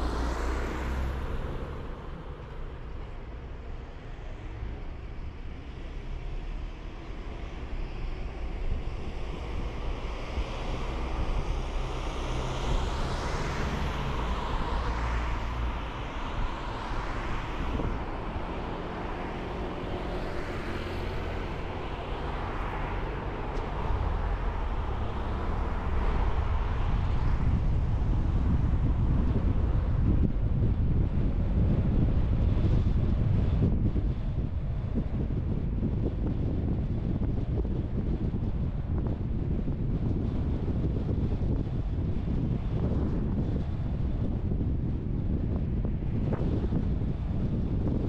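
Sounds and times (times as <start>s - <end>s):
car tyre and wind noise: 0.0s - 48.0s.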